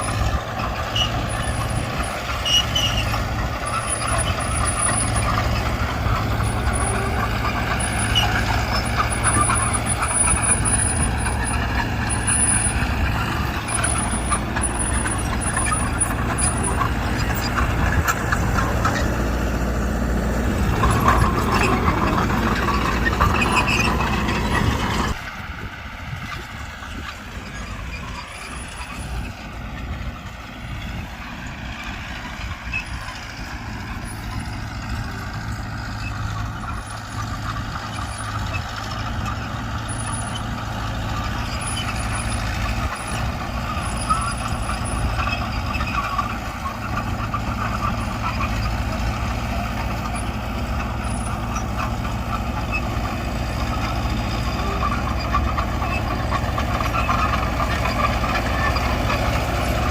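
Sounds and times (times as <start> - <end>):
diesel engine of earthmoving machine: 0.0 - 59.9.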